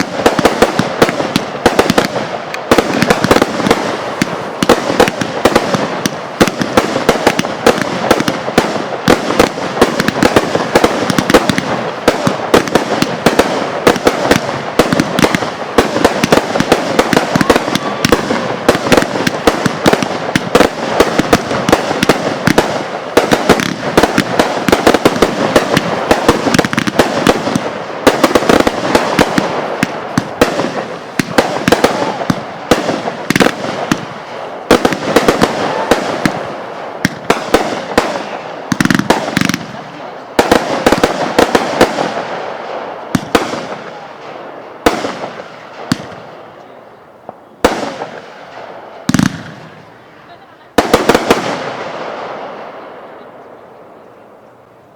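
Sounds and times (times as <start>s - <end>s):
fireworks crackling and popping: 0.0s - 54.2s.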